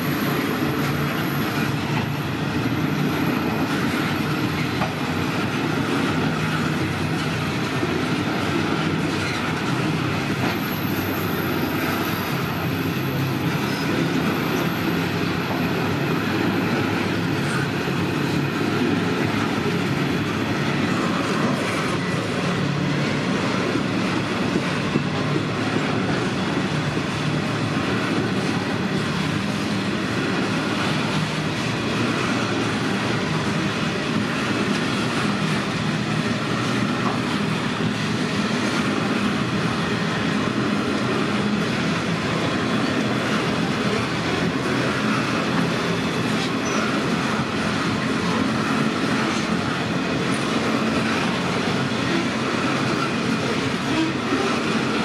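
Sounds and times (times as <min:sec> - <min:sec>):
train wagons rumbling and clattering: 0:00.0 - 0:55.0.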